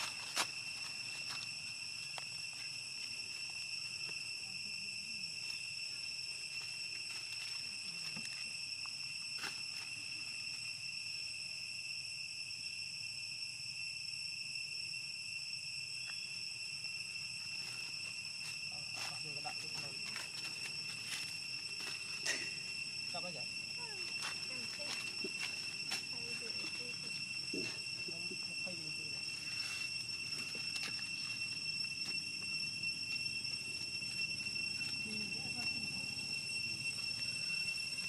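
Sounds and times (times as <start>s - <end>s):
high-pitched insect chorus: 0.0s - 38.0s.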